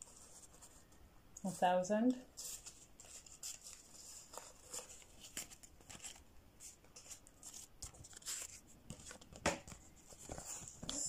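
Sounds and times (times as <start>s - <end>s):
banknotes rustling and crinkling: 0.0s - 11.0s.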